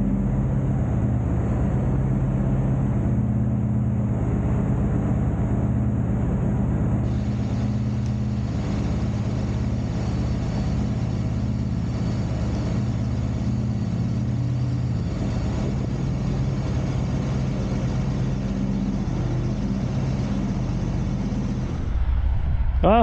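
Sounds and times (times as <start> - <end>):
truck diesel engine running: 0.0 - 22.2.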